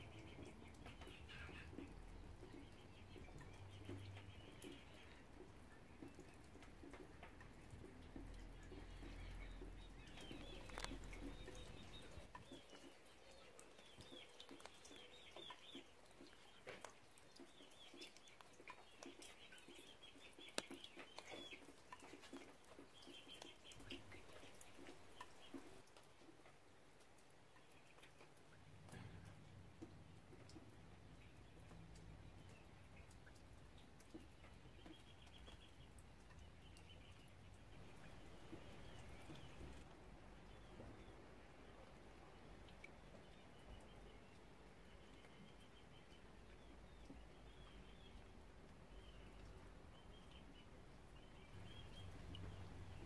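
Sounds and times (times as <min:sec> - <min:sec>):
light rain patter: 0:00.0 - 0:53.0
small birds chirping: 0:00.0 - 0:53.0
water dripping: 0:00.0 - 0:53.0.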